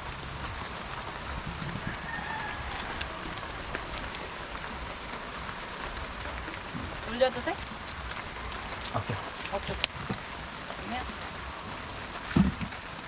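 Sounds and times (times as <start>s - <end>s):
rain on a roof: 0.0s - 13.0s.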